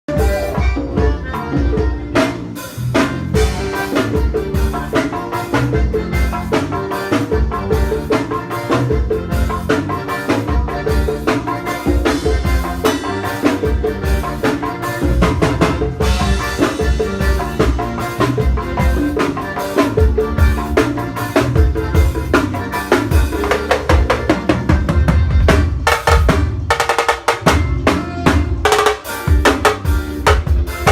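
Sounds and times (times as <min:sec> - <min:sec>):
drum kit groove: 0:00.0 - 0:30.9
music with bass: 0:00.0 - 0:30.9.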